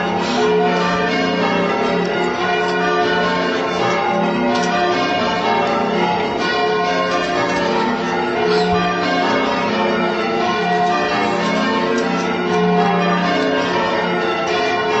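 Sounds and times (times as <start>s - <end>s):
church bells ringing changes: 0.0s - 15.0s.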